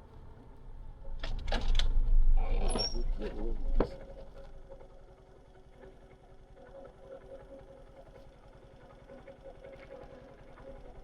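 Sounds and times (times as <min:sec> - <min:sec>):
faint low engine rumble: 0:00.0 - 0:11.0.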